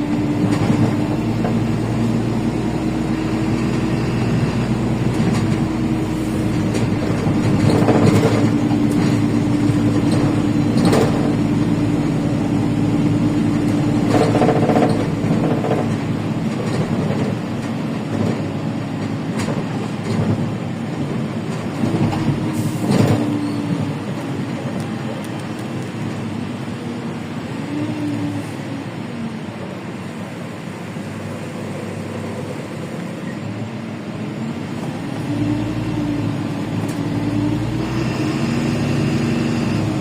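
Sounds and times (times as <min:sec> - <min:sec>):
bus engine whine: 0:00.0 - 0:40.0
road rumble: 0:00.0 - 0:40.0.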